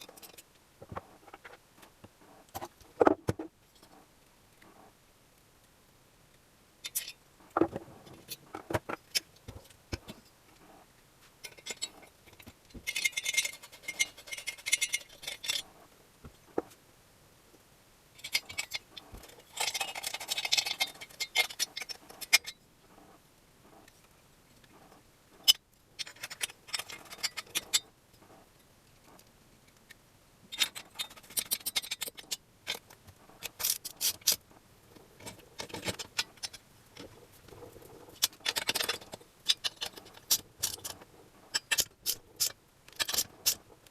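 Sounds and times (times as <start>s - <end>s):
scraping and clicking of parts: 0.0s - 4.9s, 6.8s - 16.8s, 18.2s - 43.9s.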